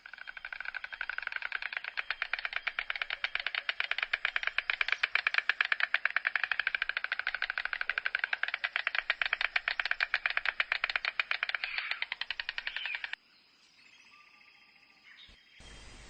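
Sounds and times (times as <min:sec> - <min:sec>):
stork clattering its bill: 0:00.0 - 0:13.2.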